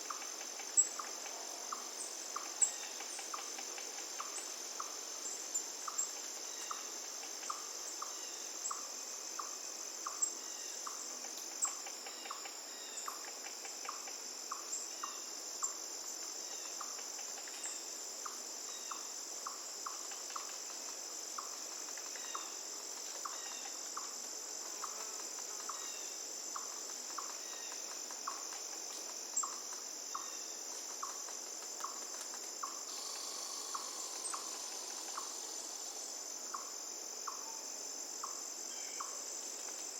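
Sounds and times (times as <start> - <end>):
high-pitched insect chorus: 0.0 - 39.9
short insect chirp: 0.0 - 39.9.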